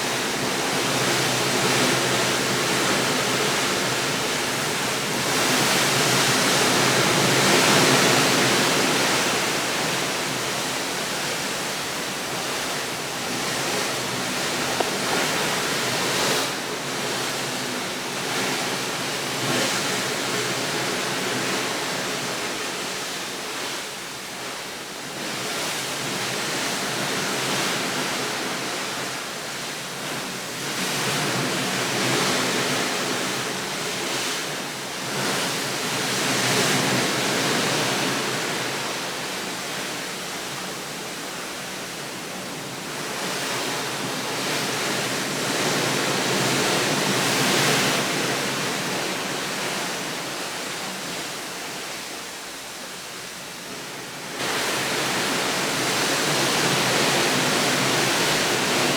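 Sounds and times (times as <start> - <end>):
rushing water: 0.0 - 58.9.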